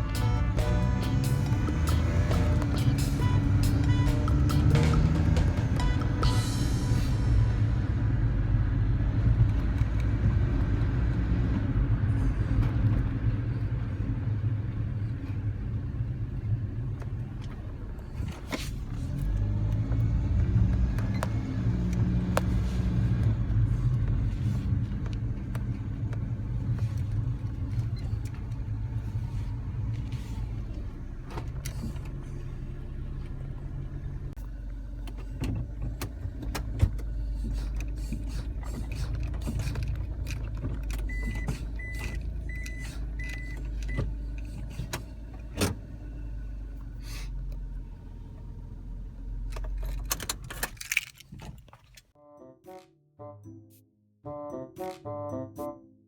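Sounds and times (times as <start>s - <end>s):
truck engine and road rumble: 0.0s - 52.2s.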